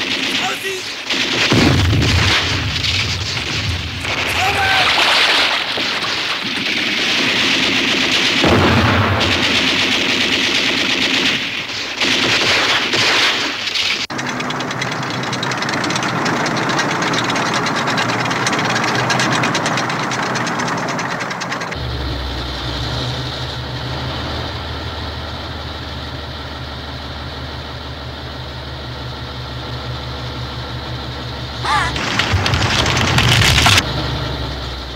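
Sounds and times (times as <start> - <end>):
explosion blasts and rumbling: 0.0 - 26.6, 31.6 - 33.9
tank engine rattling: 0.0 - 34.9.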